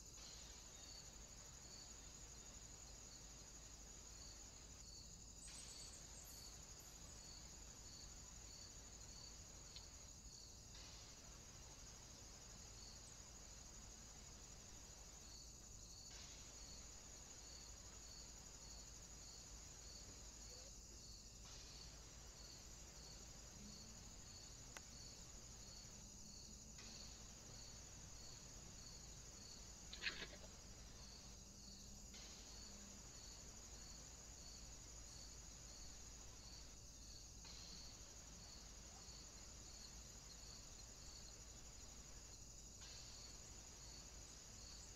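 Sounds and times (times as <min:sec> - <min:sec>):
crickets chirring: 0:00.0 - 0:44.9.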